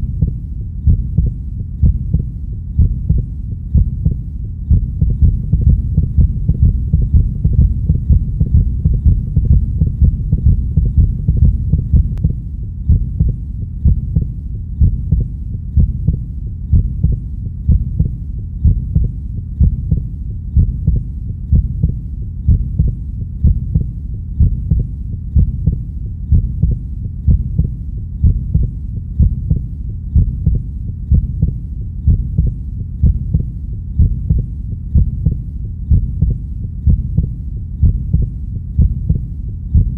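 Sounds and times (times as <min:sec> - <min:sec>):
heartbeat thumps: 0:00.0 - 0:39.9
low hum: 0:00.0 - 0:39.9.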